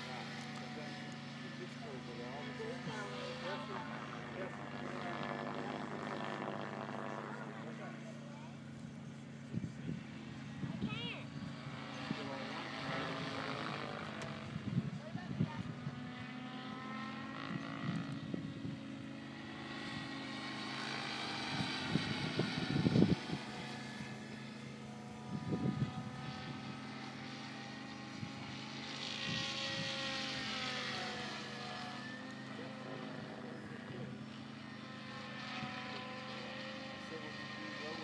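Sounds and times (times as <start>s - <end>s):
rc helicopter motor whine: 0.0s - 38.0s.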